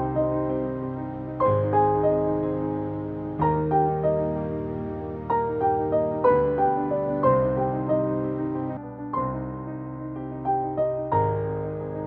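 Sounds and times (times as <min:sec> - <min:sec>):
soft piano background music: 0:00.0 - 0:12.0.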